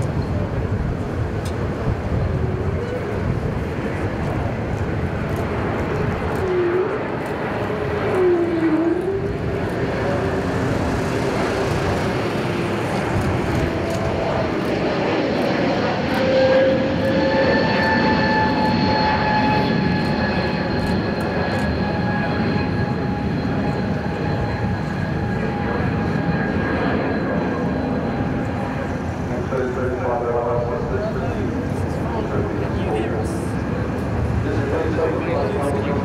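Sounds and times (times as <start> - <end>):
jet airliner flying over: 0.0 - 36.0.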